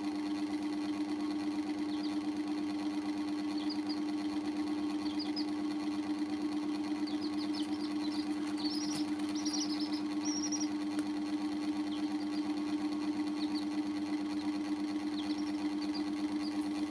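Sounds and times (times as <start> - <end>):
baby chicks peeping: 0.0 - 16.9
steady hum: 0.0 - 16.9.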